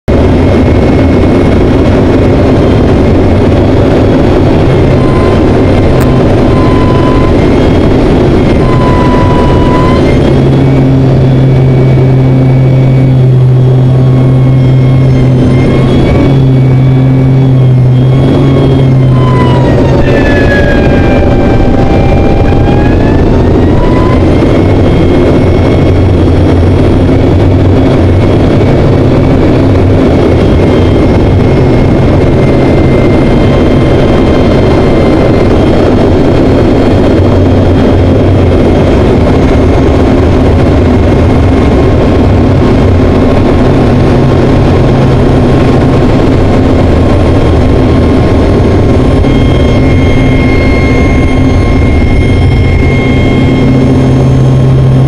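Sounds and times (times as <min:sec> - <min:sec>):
engine whining tones: 0:00.0 - 0:55.0
turboprop engine drone: 0:00.0 - 0:55.0.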